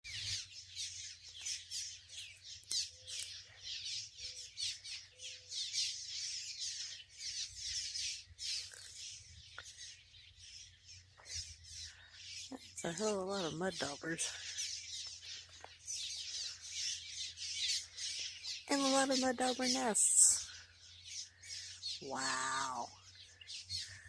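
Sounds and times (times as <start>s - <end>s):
colony of birds chirping: 0.0s - 24.0s.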